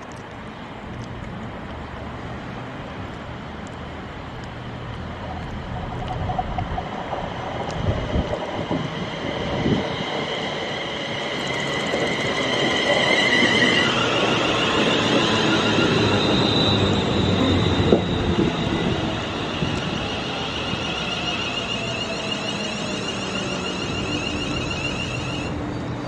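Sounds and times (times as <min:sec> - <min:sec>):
train rumble: 0:03.7 - 0:26.0.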